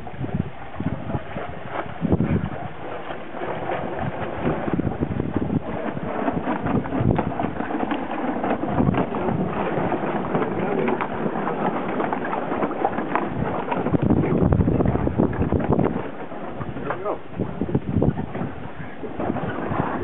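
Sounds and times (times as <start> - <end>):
sails flapping: 0.0 - 20.0
wind buffeting microphone: 0.0 - 20.0.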